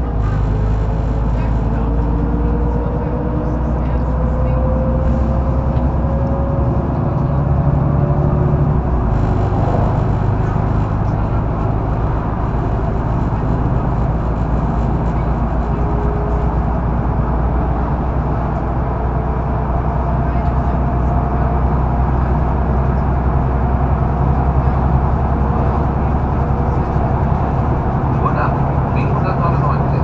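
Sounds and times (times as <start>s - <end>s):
bus diesel engine drone: 0.0s - 30.0s
road noise: 0.0s - 30.0s.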